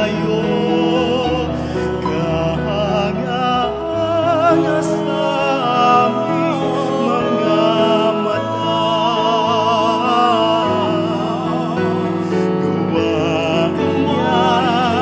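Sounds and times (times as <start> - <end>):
person singing with vibrato: 0.0 - 15.0
sustained accompanying chords: 0.0 - 15.0.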